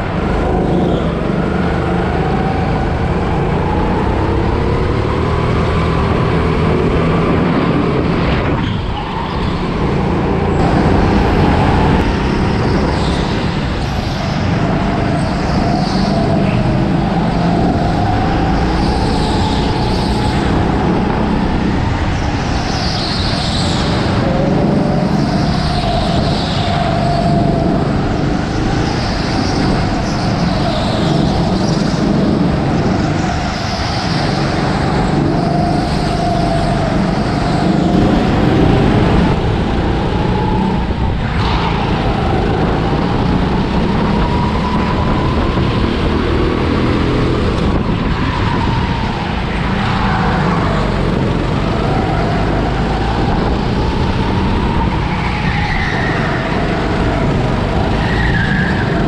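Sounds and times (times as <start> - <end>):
go-kart motor whining: 0.0 - 59.0.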